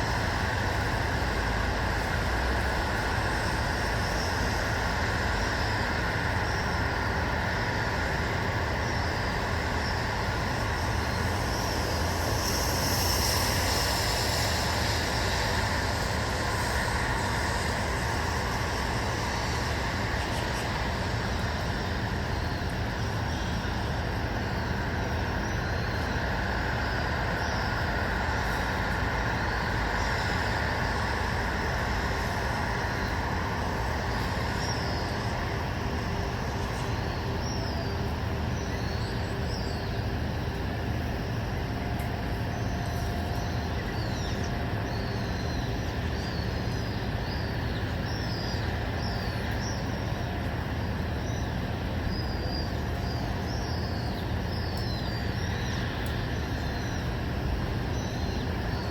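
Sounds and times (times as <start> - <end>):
distant road traffic: 0.0 - 58.9.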